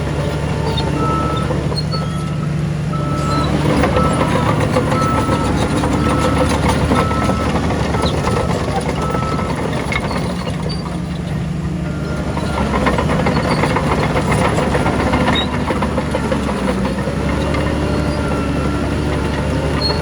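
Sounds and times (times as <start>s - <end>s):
heavy diesel machinery engine: 0.0s - 20.0s.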